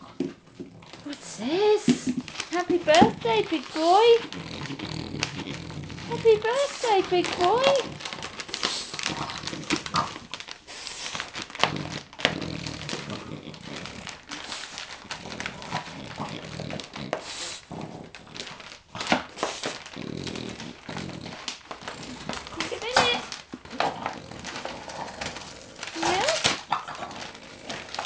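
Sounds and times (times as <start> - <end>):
wrapping paper crinkling: 0.0 - 28.0.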